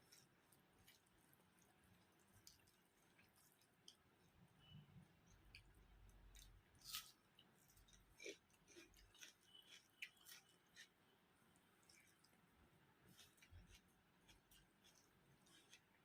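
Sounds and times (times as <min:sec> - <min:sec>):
chewing and eating sounds: 0:00.0 - 0:16.0.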